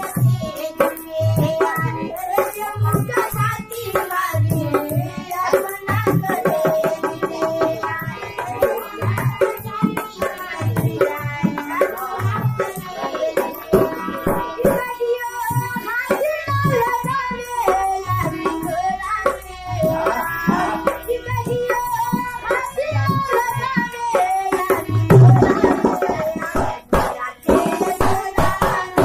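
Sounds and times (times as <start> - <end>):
hand drum beat: 0.0 - 29.0
harmonium chords: 0.0 - 29.0
woman singing: 0.0 - 29.0.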